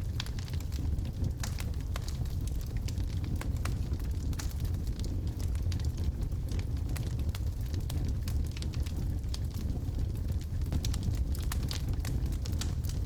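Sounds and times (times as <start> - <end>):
low rumble of flames: 0.0 - 13.0.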